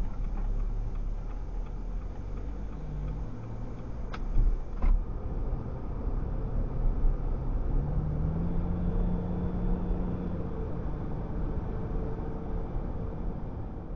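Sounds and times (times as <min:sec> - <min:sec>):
car road and engine noise: 0:00.0 - 0:13.9.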